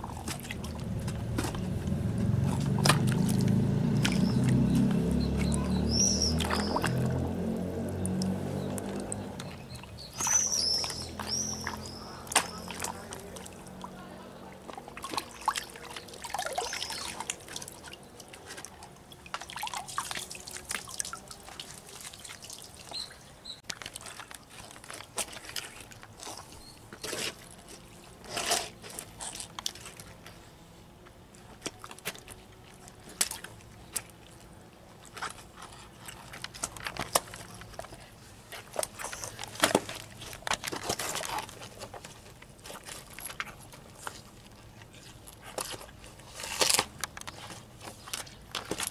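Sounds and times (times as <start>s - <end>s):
squelching steps in puddle: 0.0s - 30.4s, 31.3s - 48.9s
water sloshing and splashing: 0.0s - 48.9s.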